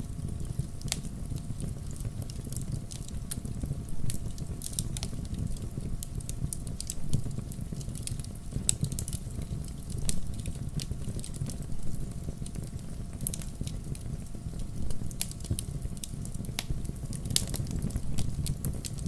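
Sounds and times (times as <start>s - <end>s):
campfire crackling and popping: 0.0s - 19.0s
low rumble of flames: 0.0s - 19.0s.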